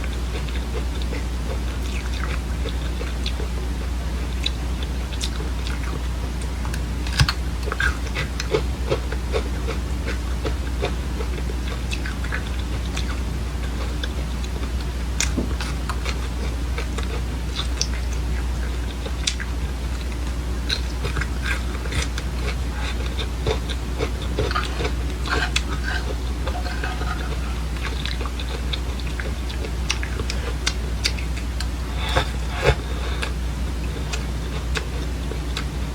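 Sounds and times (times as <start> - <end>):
chewing dry seeds: 0.0 - 35.9
steady low hum: 0.0 - 35.9.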